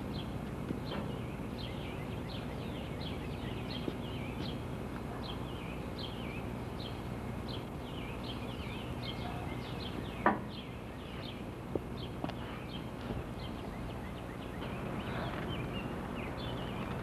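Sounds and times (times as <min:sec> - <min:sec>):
low background rumble: 0:00.0 - 0:17.0
songbirds chirping: 0:00.0 - 0:17.0.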